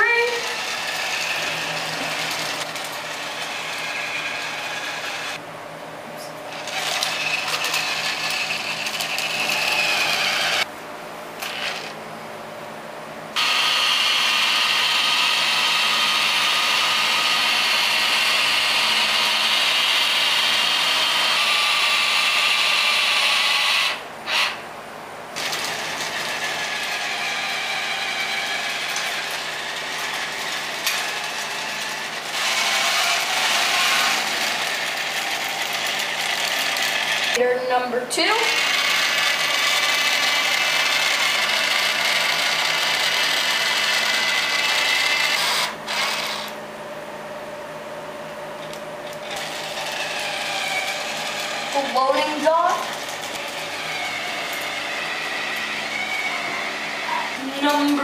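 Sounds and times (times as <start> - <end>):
toy monorail motor whirring: 0.0 - 5.4, 6.5 - 10.7, 11.4 - 12.0, 13.4 - 24.6, 25.4 - 37.4, 38.4 - 46.6, 49.2 - 58.0.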